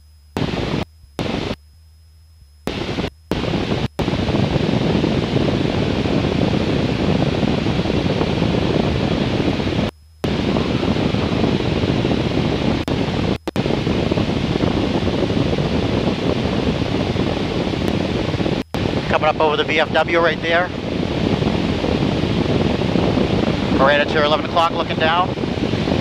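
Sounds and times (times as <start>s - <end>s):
faint electrical hum: 0.0s - 23.5s.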